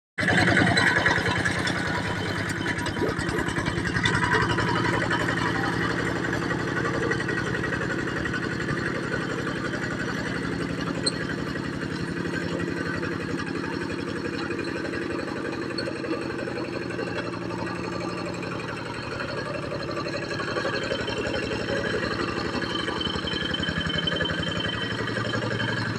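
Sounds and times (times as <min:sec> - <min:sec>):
tractor diesel engine running: 0:00.2 - 0:25.9.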